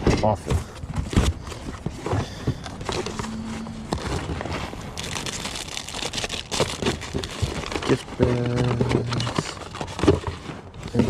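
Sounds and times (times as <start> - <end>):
cardboard box rustling and crinkling: 0.0 - 11.0
items knocking and clicking: 0.0 - 11.0.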